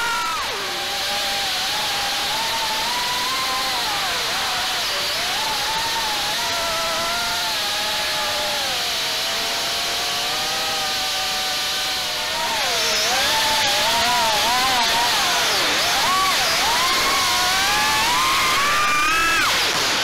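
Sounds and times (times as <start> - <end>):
quadcopter propellers whining: 0.0 - 20.0.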